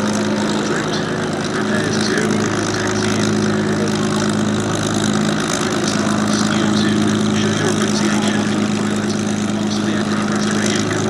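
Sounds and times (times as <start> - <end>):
piston aero engine idling: 0.0 - 11.0.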